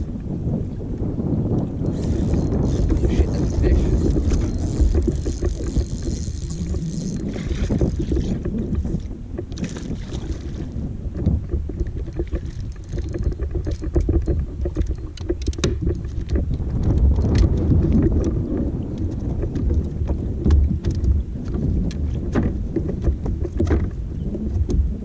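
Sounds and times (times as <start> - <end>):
water lapping against boat hull: 0.0 - 25.0
wind rumbling on microphone: 0.0 - 25.0.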